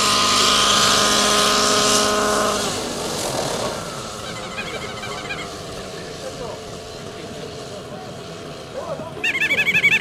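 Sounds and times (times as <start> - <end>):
model helicopter engine running: 0.0 - 10.0.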